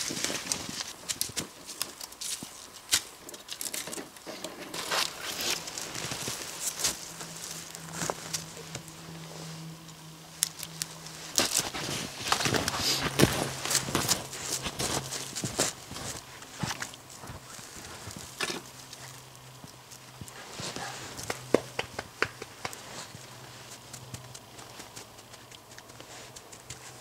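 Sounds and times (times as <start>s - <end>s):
crunching of snow and twigs: 0.0s - 27.0s
faint low hum: 0.0s - 27.0s.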